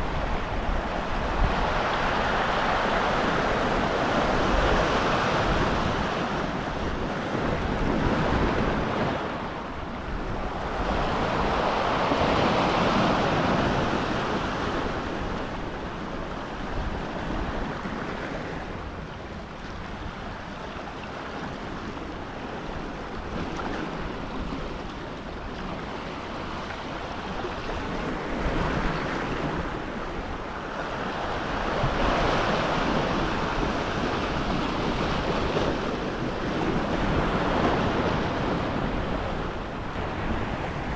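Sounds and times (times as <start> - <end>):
ocean waves breaking on rocks: 0.0 - 40.9
wind on microphone: 0.0 - 40.9.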